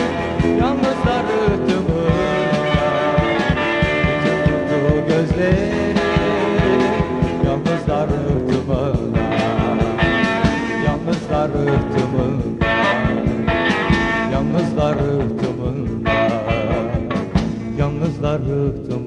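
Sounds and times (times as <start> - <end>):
bass guitar: 0.0 - 19.0
electric guitar lines: 0.0 - 19.0
steady drum beat: 0.0 - 19.0.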